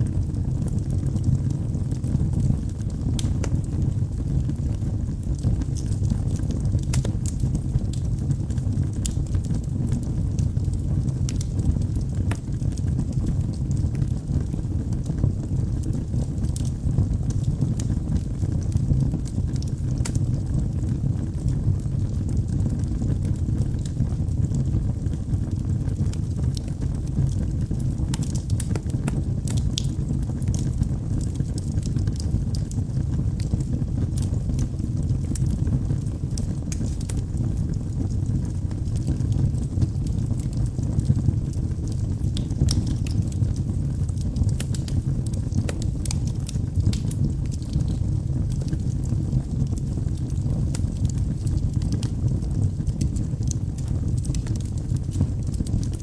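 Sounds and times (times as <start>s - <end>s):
burning logs crackling and popping: 0.0s - 56.0s
low rumble of flames: 0.0s - 56.0s.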